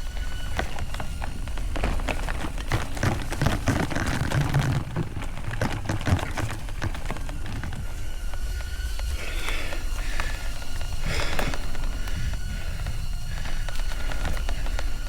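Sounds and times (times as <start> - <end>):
bike tyres rattling on trail: 0.0 - 15.0
wind rumble on microphone: 0.0 - 15.0.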